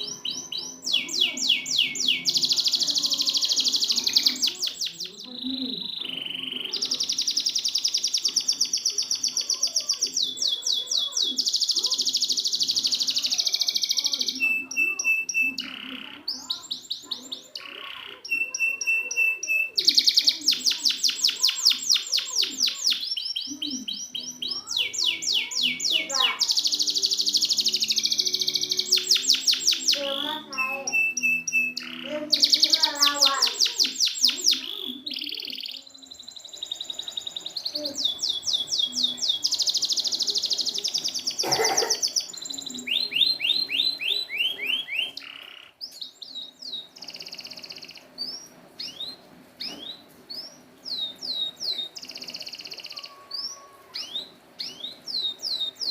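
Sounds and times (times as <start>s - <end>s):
canary singing fast trills: 0.0s - 55.9s.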